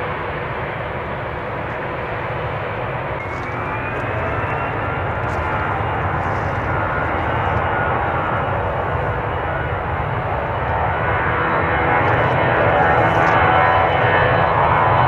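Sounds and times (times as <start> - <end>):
faint rising whine: 0.0 - 15.0
jet engines rumbling: 0.0 - 15.0.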